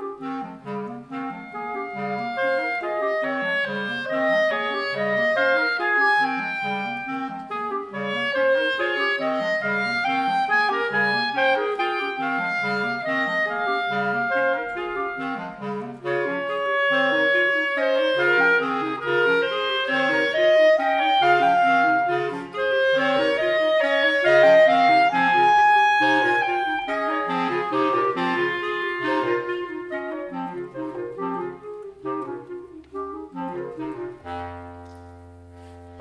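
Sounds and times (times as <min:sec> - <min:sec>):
clarinets and basset horns playing: 0:00.0 - 0:36.0.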